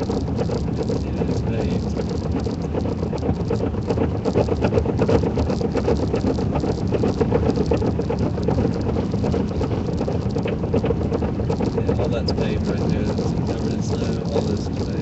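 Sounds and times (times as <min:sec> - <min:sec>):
car engine and tyre rumble: 0:00.0 - 0:15.0
small rattles and knocks: 0:00.0 - 0:15.0.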